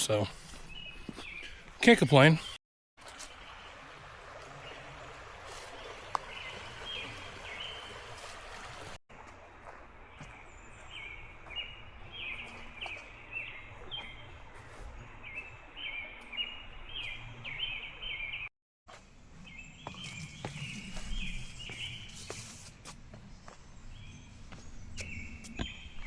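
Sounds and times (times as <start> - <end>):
songbird chirping: 0.0 - 8.3, 9.6 - 26.0.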